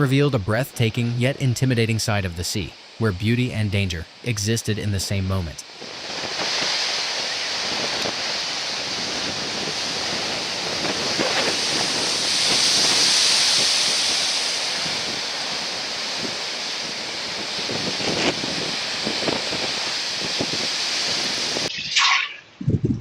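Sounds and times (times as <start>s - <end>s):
wind on microphone: 0.0s - 23.0s
sea waves breaking: 0.1s - 22.4s.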